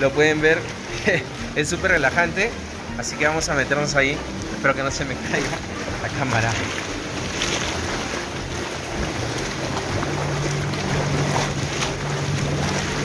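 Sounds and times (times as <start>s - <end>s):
steady low hum: 0.0s - 13.0s
water churning and bubbling: 0.0s - 13.0s.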